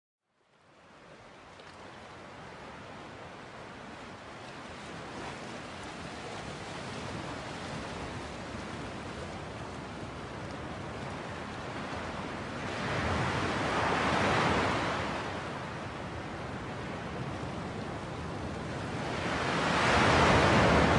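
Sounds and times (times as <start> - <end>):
wind over open sea: 0.5 - 20.9.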